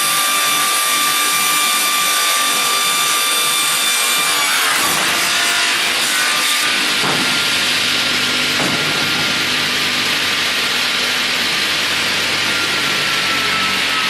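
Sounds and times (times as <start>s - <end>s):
sawing machine cutting wood: 0.0s - 14.0s.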